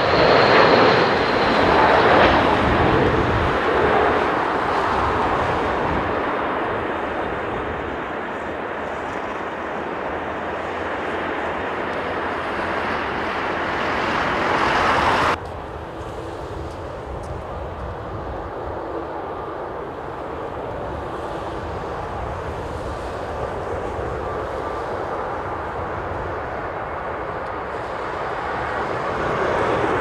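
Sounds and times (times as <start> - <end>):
jet airliner engine roar: 0.0 - 30.0.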